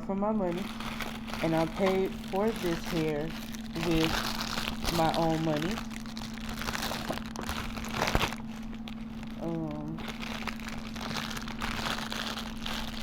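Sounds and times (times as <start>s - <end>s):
steady low hum: 0.0s - 13.0s
plastic packaging crinkling: 0.4s - 13.0s.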